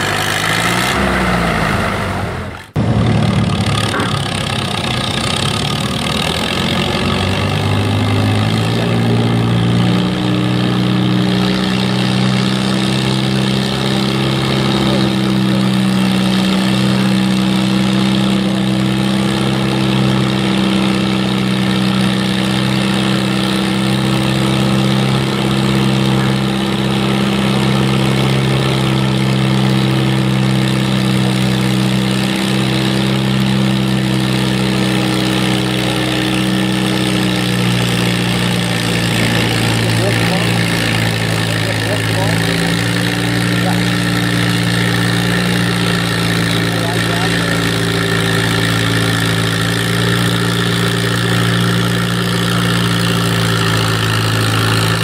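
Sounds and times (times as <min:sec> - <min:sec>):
tractor engine revving: 0:00.0 - 0:55.0.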